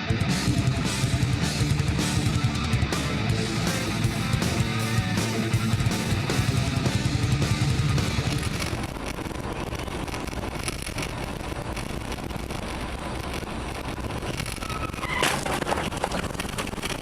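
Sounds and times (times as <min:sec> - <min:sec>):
car road and engine noise: 0:00.0 - 0:17.0
sharp noise burst with tone: 0:00.0 - 0:17.0.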